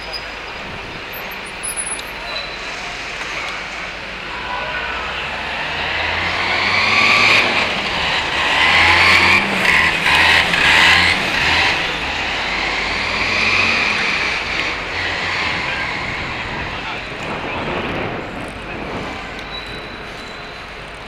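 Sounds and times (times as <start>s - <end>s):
motor vehicles passing: 0.4s - 21.0s.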